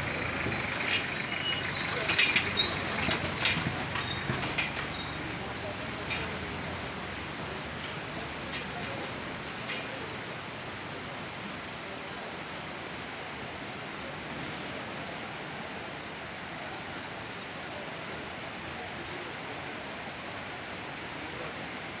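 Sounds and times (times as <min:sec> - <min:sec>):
river rushing in flood: 0:00.0 - 0:22.0.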